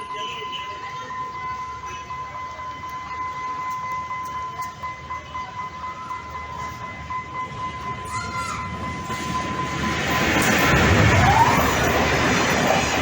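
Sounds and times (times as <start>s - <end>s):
train rumbling: 0.7s - 13.0s.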